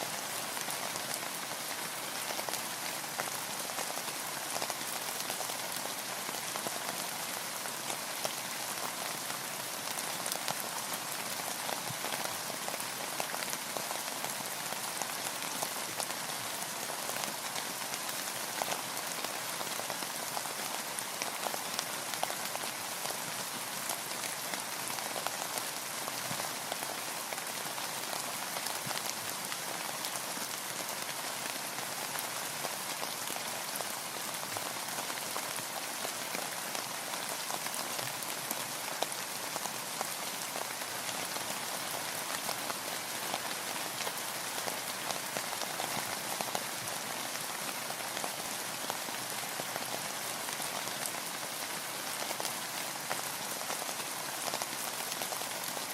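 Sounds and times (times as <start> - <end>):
rain pattering on a surface: 0.0 - 55.9.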